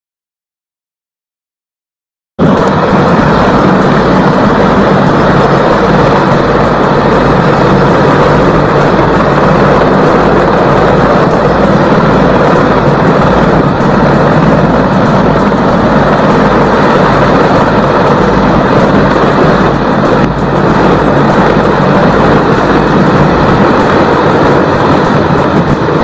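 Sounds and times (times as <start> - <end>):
helicopter passing low overhead: 2.4 - 26.0.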